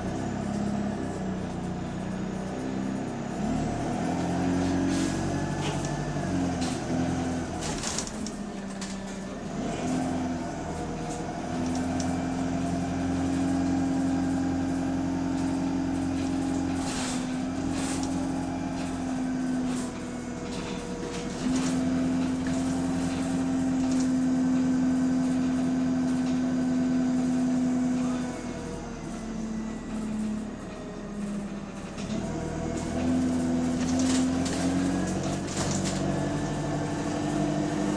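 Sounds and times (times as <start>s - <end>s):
bus engine drone: 0.0s - 37.9s.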